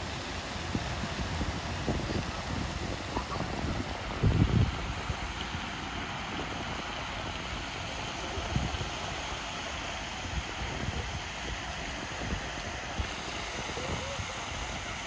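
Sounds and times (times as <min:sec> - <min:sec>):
fountain jets spraying: 0:00.0 - 0:15.0
wind on microphone: 0:00.0 - 0:15.0.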